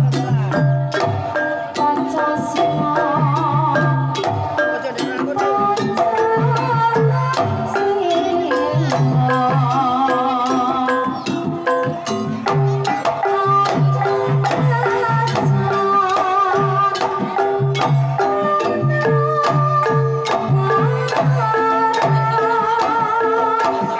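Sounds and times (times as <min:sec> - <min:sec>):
ringing metallophones and gongs: 0:00.0 - 0:23.9
woman singing with vibrato: 0:01.4 - 0:04.4, 0:05.3 - 0:23.9.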